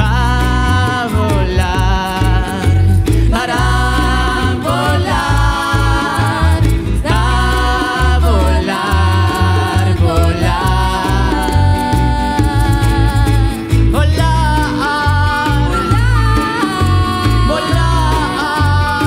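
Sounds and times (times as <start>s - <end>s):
live band playing: 0.0s - 19.0s
person singing: 0.0s - 19.0s
pulsing bass line: 0.0s - 19.0s.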